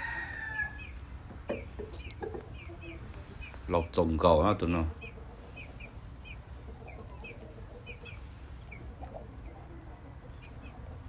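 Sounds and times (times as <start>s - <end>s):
chicken clucking: 0.0s - 11.0s
chicks peeping: 0.0s - 11.0s.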